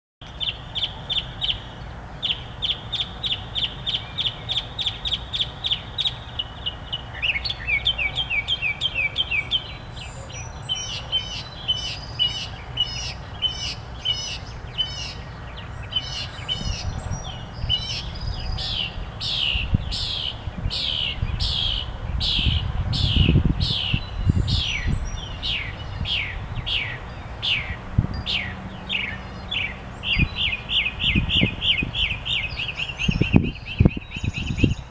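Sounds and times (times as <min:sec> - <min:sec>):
songbird singing: 0:00.2 - 0:34.9.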